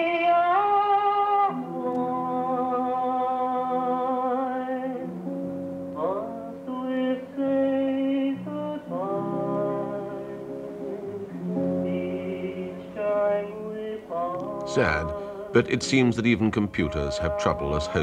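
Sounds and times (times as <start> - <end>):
male singer holding long notes: 0.0 - 5.1, 6.0 - 18.0.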